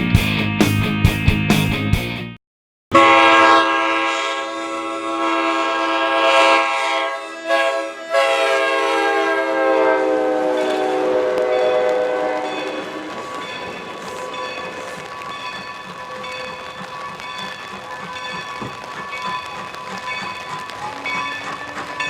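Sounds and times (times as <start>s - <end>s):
steam locomotive chime whistle: 2.9s - 22.0s.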